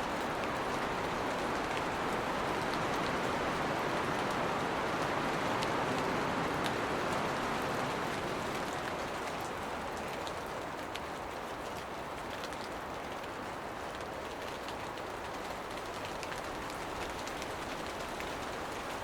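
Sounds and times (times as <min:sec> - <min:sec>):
rain falling on foliage: 0:00.0 - 0:19.0.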